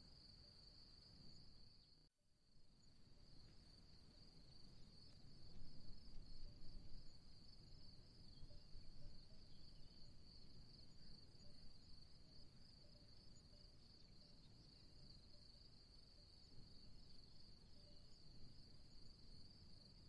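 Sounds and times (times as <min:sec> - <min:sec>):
insect chorus chirring: 0:03.3 - 0:20.0.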